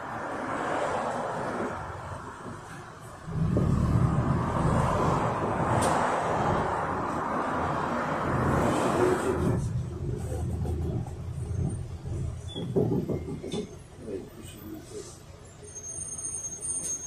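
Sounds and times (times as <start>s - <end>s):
bus engine rumble: 0.0s - 17.0s
road noise: 0.0s - 17.0s.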